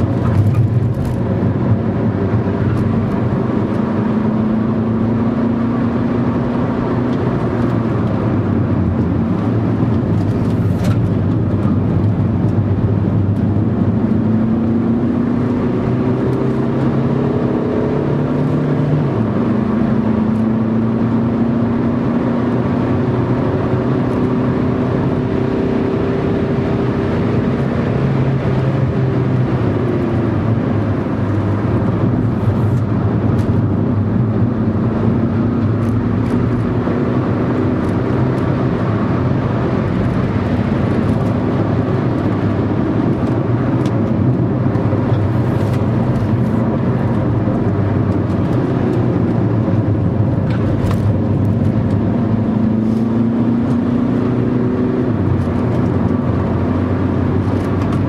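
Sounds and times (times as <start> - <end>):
car engine: 0.0 - 58.0
road noise inside car: 0.0 - 58.0.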